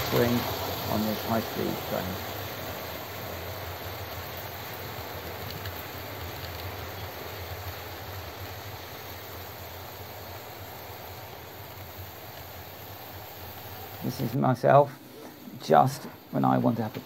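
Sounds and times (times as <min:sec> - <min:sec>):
model train rolling rumble: 0:00.0 - 0:17.0.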